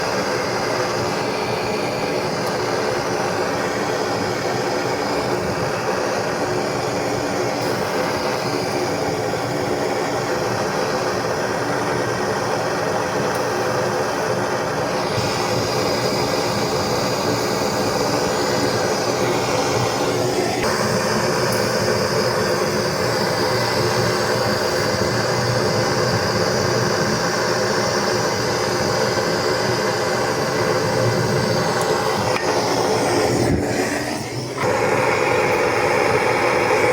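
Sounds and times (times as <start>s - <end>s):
gas torch roaring hiss: 0.0s - 36.9s.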